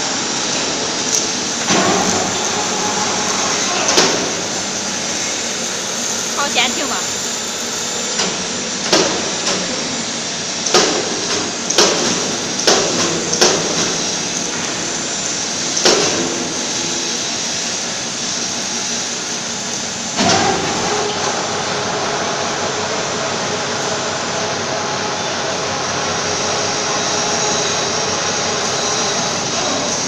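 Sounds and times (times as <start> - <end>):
welding rotator drive running: 0.0 - 30.0.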